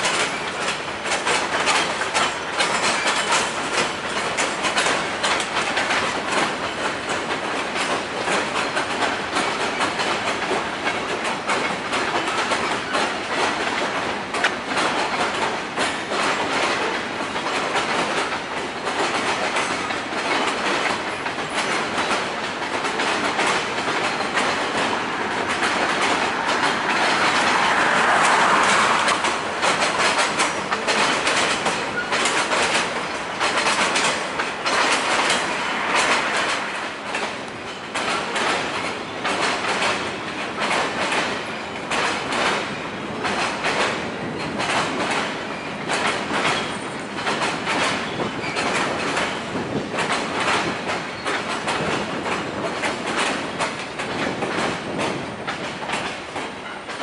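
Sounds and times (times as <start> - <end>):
rumble of train cars: 0.0 - 57.0
wheels clicking over rail joints: 0.0 - 57.0.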